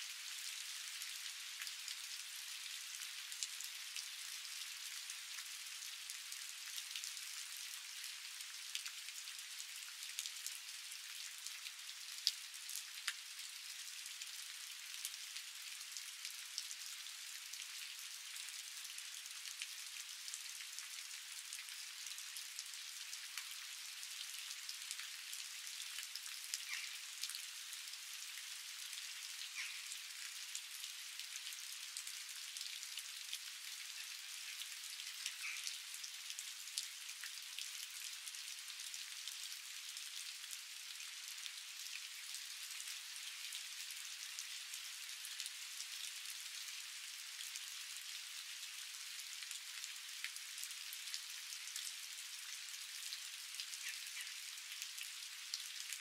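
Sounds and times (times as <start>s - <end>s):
rain falling on a pond: 0.0s - 56.0s.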